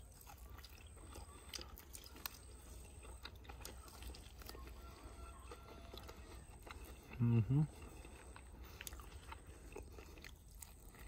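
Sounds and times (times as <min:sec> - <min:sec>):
low steady hum: 0:00.0 - 0:11.0
person chewing chicken wing: 0:00.0 - 0:11.0.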